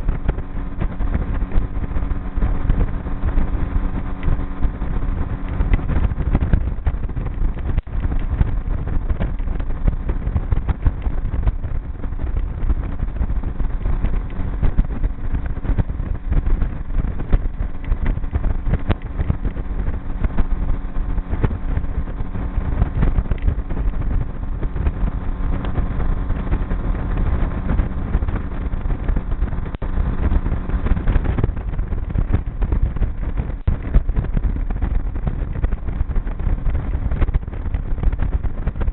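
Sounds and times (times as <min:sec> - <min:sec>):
outboard motor running: 0:00.0 - 0:38.9
wind buffeting microphone: 0:00.0 - 0:38.9.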